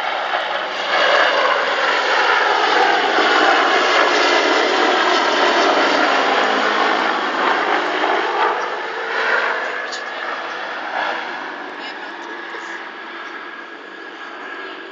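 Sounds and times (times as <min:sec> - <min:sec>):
helicopter flying overhead: 0:00.0 - 0:14.9.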